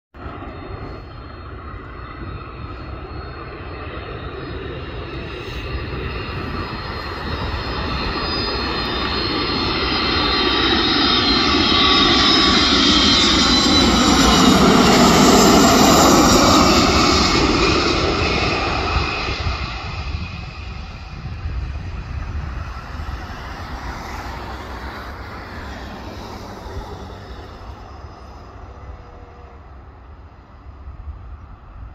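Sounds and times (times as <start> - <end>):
jet engines on landing approach: 0.1 - 31.9
jet whine sliding down in pitch: 0.2 - 31.9.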